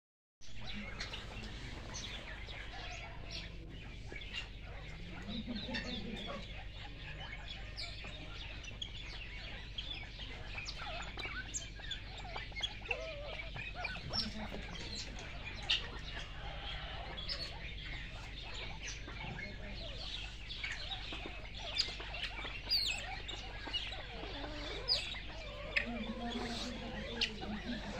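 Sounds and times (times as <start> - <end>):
small birds chirping: 0.4 - 27.9
larger birds calling: 0.6 - 27.9.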